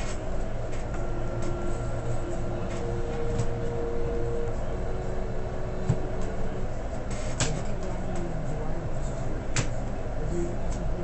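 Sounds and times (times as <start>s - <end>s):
faint steady tones: 0.0s - 11.0s
low mechanical hum: 0.0s - 11.0s.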